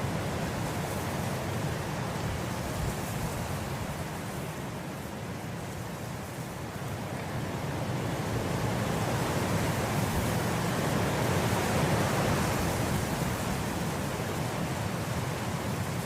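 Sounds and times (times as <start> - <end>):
wind blowing through grass: 0.0 - 16.0.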